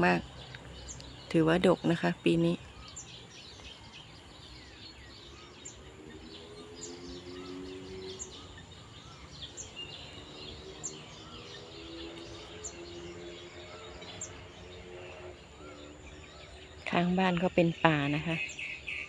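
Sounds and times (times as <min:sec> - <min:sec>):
low drone: 0:00.0 - 0:17.6
birds chirping and calling: 0:00.0 - 0:19.0.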